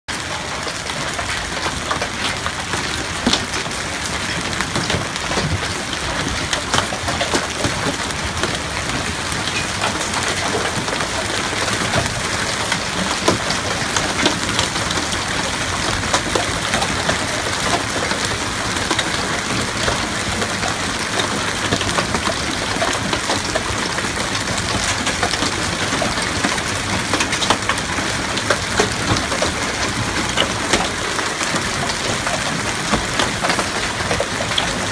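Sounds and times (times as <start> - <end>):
hailstones clattering: 0.1 - 34.9.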